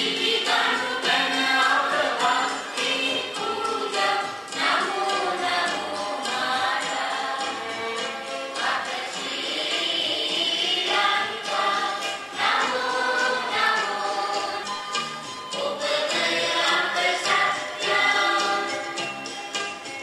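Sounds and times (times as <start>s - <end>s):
choir singing: 0.0s - 19.3s.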